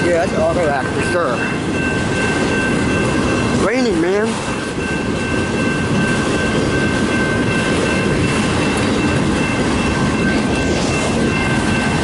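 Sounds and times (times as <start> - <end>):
steady high-pitched tone: 0.0 - 12.0
train wheels rumbling and rattling: 0.0 - 12.0.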